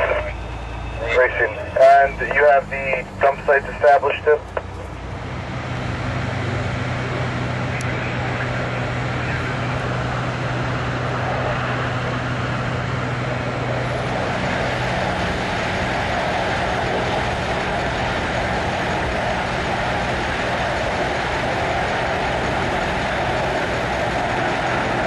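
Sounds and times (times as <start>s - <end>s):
diesel engines humming: 0.0s - 25.0s
gas fire roaring: 0.0s - 25.0s.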